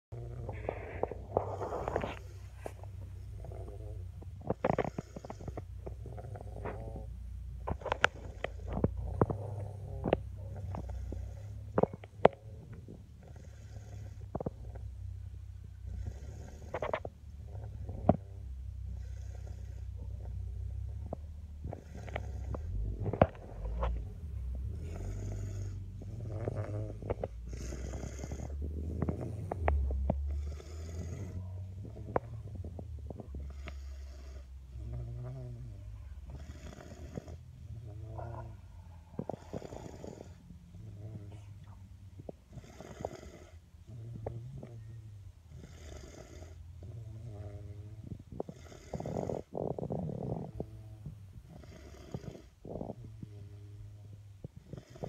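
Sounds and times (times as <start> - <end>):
steady low hum: 0.0 - 55.0
baby snoring: 0.2 - 14.8, 15.8 - 24.0, 24.7 - 41.6, 45.5 - 55.0.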